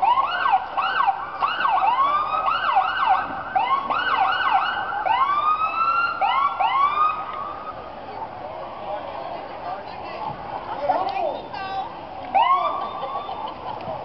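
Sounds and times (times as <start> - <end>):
police sirens wailing: 0.0 - 11.0, 11.8 - 14.0.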